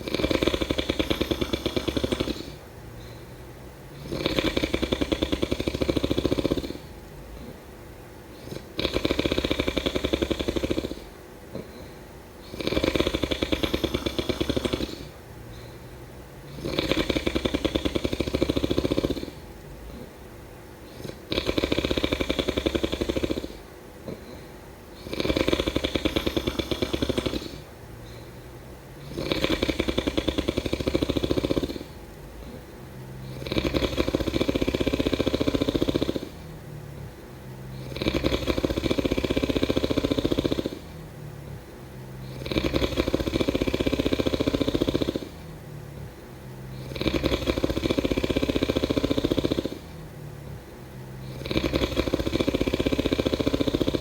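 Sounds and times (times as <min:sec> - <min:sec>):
person snoring: 0:00.0 - 0:03.2, 0:03.9 - 0:07.6, 0:08.3 - 0:15.8, 0:16.4 - 0:20.1, 0:20.8 - 0:28.4, 0:29.0 - 0:41.6, 0:42.2 - 0:46.1, 0:46.7 - 0:50.6, 0:51.2 - 0:54.0
quiet breathing: 0:00.0 - 0:54.0.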